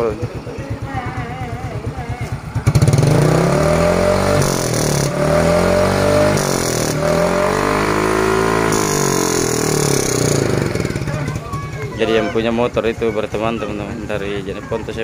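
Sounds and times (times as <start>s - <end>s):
scooter engine revving loudly: 0.0s - 15.0s.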